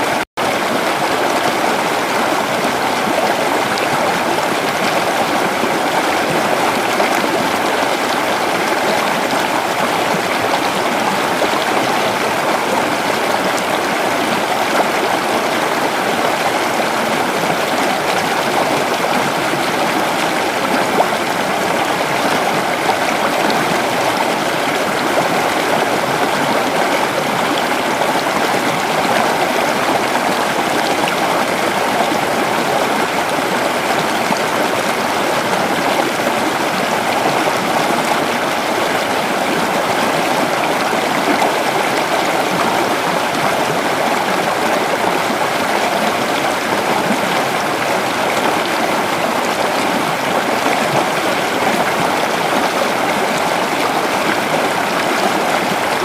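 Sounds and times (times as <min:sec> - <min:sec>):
creek water babbling over rocks: 0:00.0 - 0:56.0.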